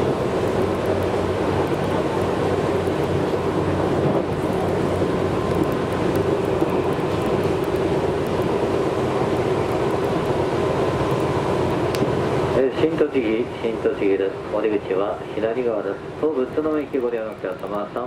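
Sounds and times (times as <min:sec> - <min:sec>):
train wheels running on rails: 0:00.0 - 0:13.1, 0:14.3 - 0:18.0.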